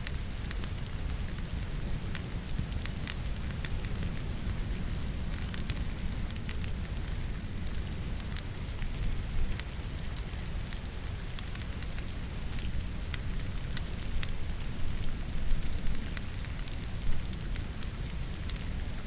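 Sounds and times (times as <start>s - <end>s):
logs crackling and popping in fireplace: 0.0s - 19.0s
low fire rumble: 0.0s - 19.0s
rain hiss: 0.0s - 19.0s.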